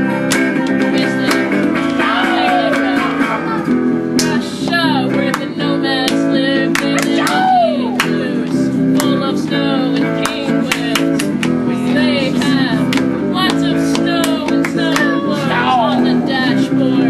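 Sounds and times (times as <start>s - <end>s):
strummed acoustic guitar: 0.0s - 17.0s
voices singing along: 0.0s - 17.0s.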